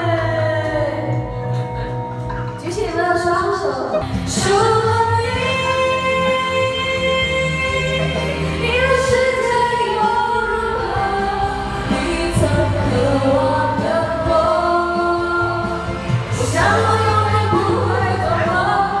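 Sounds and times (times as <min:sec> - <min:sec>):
karaoke backing music: 0:00.0 - 0:19.0
woman singing a pop song: 0:00.0 - 0:19.0.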